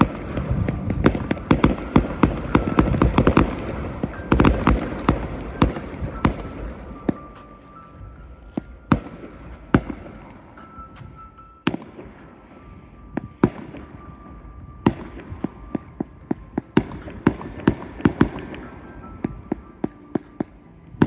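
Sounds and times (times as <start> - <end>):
fireworks bursting with bangs: 0.0 - 12.4, 13.0 - 20.7.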